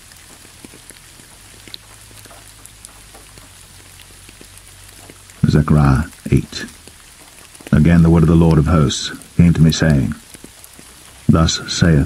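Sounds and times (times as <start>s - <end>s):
sharp raindrop ticks: 0.0s - 12.0s
steady rain hiss: 0.0s - 12.0s.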